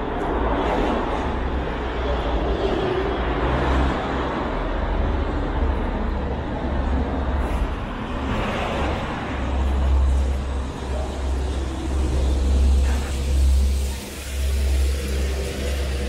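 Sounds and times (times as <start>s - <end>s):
cars driving past: 0.0s - 16.0s
low traffic rumble: 0.0s - 16.0s.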